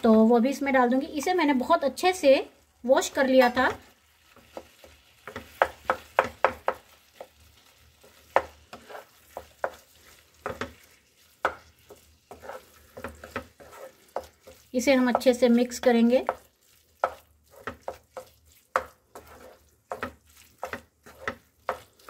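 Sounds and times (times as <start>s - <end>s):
faint sizzle: 0.0s - 22.0s
spatula scraping a pan: 3.0s - 22.0s.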